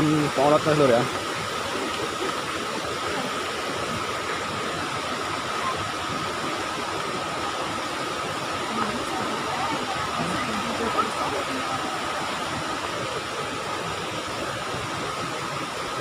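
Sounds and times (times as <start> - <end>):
river rapids: 0.0 - 16.0
waterfall rushing: 0.0 - 16.0.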